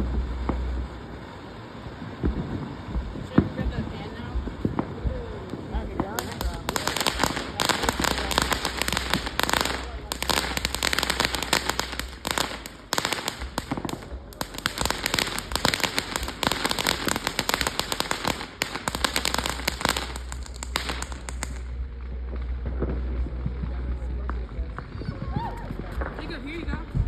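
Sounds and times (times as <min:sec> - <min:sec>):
firecrackers popping: 0:00.0 - 0:27.0.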